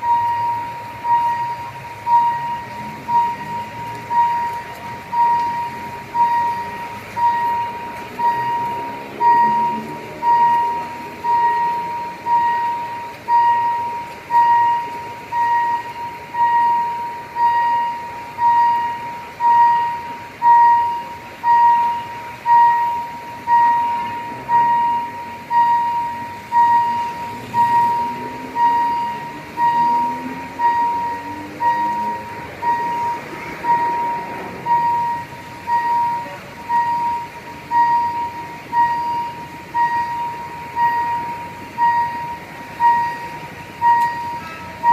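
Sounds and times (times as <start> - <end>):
road traffic rumbling: 0.0 - 44.9
warning bell ringing: 0.0 - 44.9.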